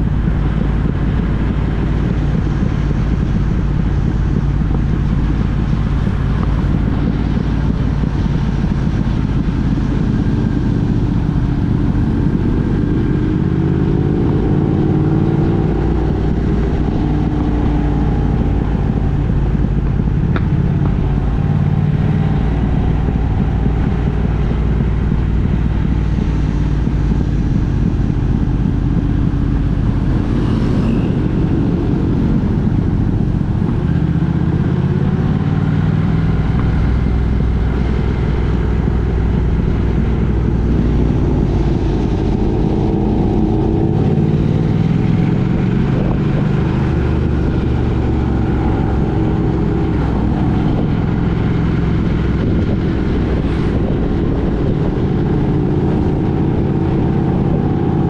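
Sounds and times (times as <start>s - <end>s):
engine tone rising and falling: 0.0s - 58.0s
vehicle engine and road rumble: 0.0s - 58.0s.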